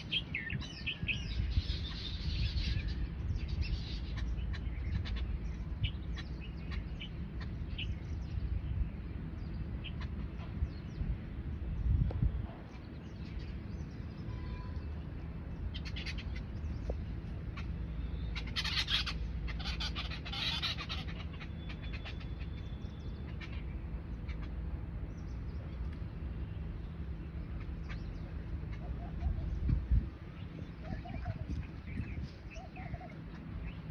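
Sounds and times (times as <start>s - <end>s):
birds calling: 0.0s - 33.9s
steady low rumble: 0.0s - 33.9s.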